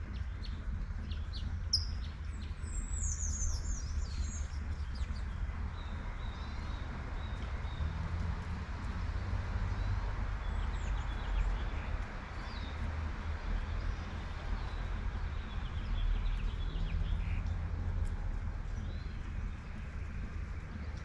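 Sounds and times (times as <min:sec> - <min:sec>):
light rain falling: 0:00.0 - 0:21.0
low rumble of traffic: 0:00.0 - 0:21.0.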